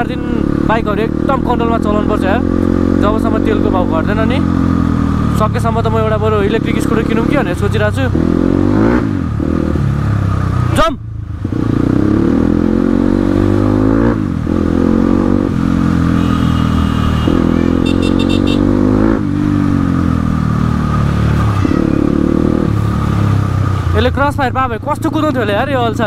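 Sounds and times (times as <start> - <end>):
dirt bike engine revving: 0.0 - 10.7, 11.4 - 24.0.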